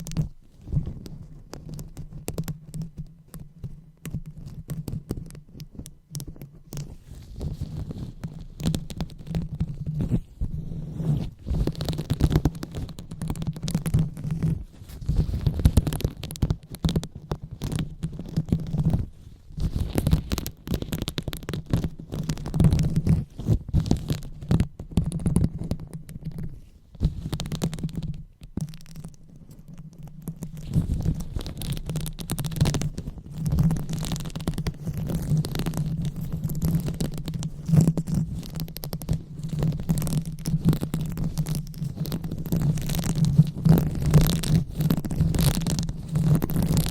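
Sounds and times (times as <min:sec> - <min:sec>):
rubbing and scratching on microphone: 0:00.0 - 0:46.9.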